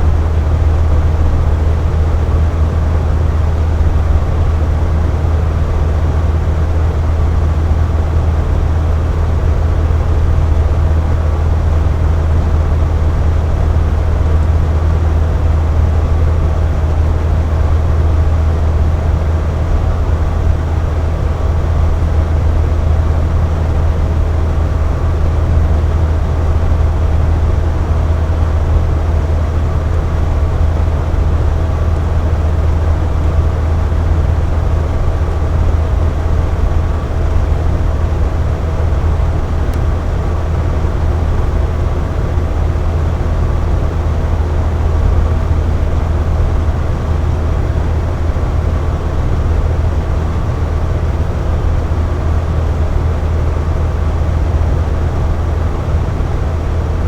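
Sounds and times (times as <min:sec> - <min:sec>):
box fan humming: 0:00.0 - 0:57.0
faint steady whine: 0:00.0 - 0:57.0.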